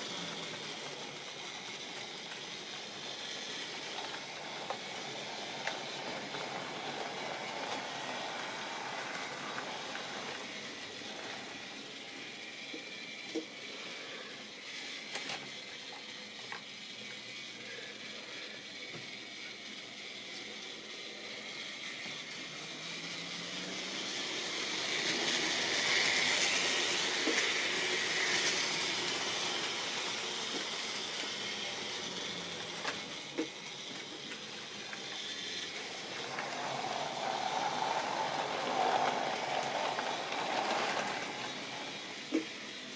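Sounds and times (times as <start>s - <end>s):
model train whirr and rattle: 0.0s - 42.9s.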